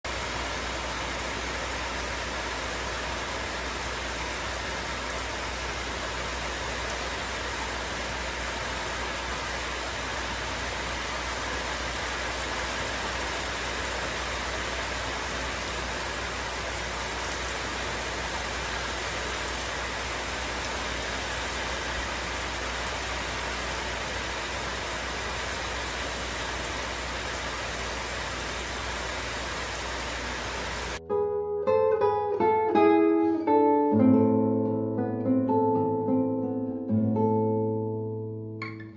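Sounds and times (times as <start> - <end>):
rain falling steadily: 0.0 - 31.0, 31.6 - 38.8.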